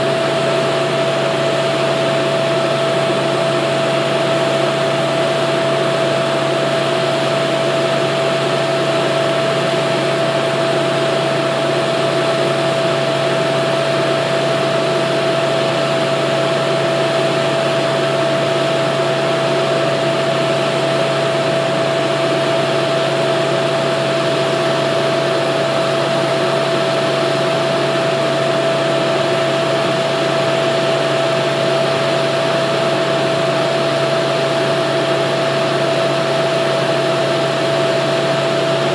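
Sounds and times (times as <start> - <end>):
machine drone with hum: 0.0 - 38.9.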